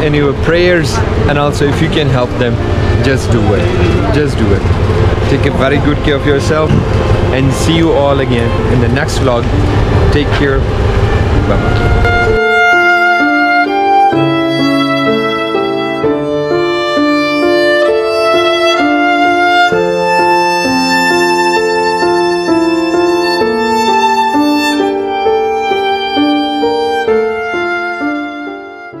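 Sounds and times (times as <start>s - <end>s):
held bass line: 0.0s - 28.1s
melody of pitched notes: 0.0s - 29.0s.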